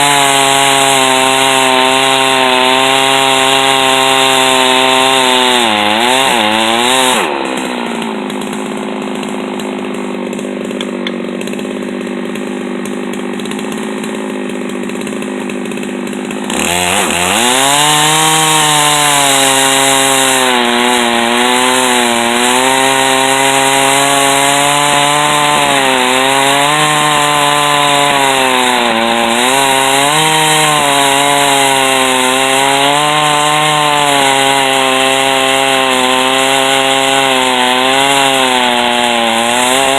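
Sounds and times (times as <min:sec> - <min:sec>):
chainsaw mill cutting log: 0:00.0 - 0:39.9.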